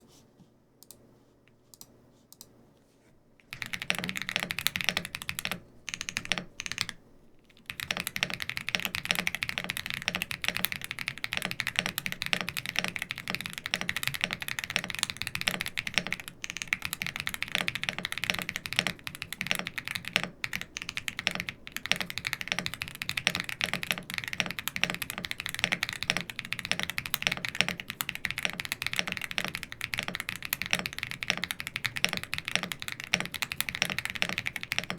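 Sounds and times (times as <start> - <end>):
mechanical keyboard typing: 3.5 - 7.0, 7.6 - 34.9.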